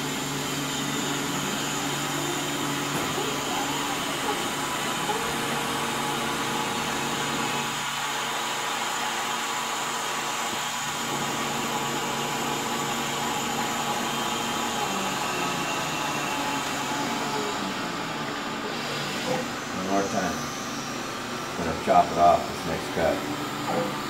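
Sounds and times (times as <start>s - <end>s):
cnc mill cutting wood: 0.0s - 24.0s.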